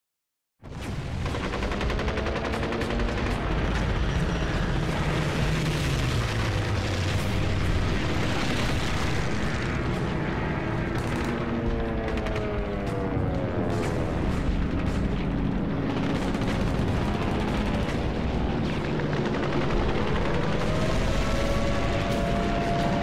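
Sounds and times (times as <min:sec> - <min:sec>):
rumble of explosions: 0:00.6 - 0:23.0
machine-gun fire: 0:00.7 - 0:11.6, 0:13.7 - 0:23.0.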